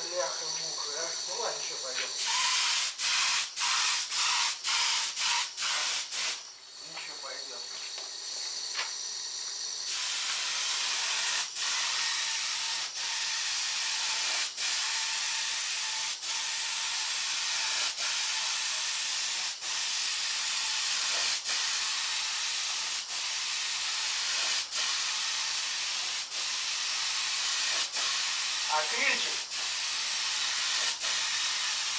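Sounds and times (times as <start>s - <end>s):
paint spray gun hissing: 0.0s - 31.9s.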